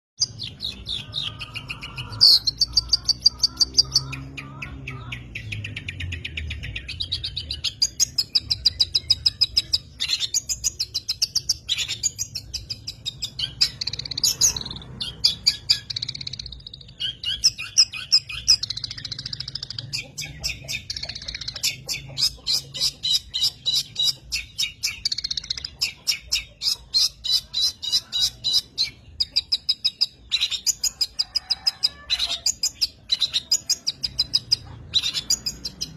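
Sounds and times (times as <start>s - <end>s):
bird singing chirps and trills: 0.2s - 35.9s.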